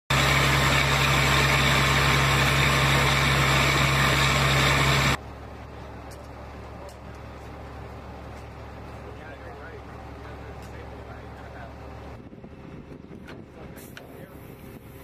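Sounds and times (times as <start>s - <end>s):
heavy engine humming: 0.1s - 15.0s.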